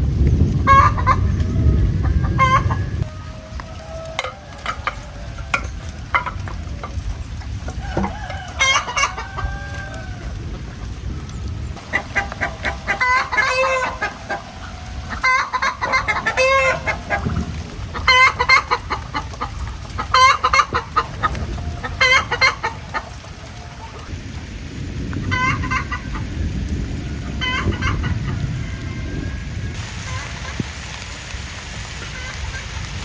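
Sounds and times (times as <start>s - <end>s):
wind and rain rushing: 0.0s - 33.0s
chickens clucking and cackling: 0.4s - 33.0s.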